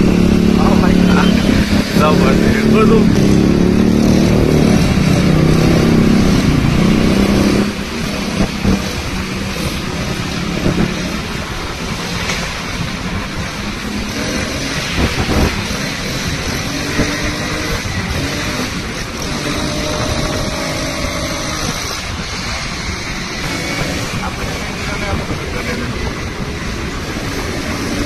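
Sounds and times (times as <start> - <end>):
motorcycle engine at high revs: 0.0 - 28.0
road and wind noise: 0.0 - 28.0.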